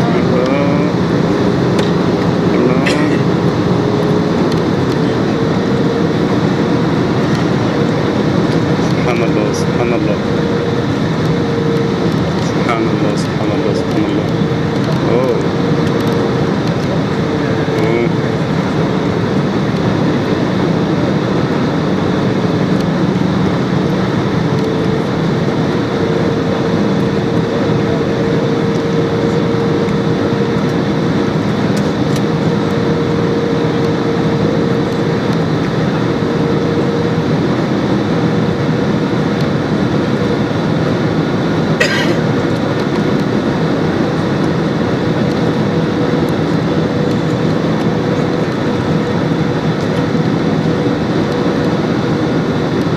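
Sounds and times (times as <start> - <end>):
jet engines roaring in cabin: 0.0 - 52.9
steady hum: 0.0 - 52.9.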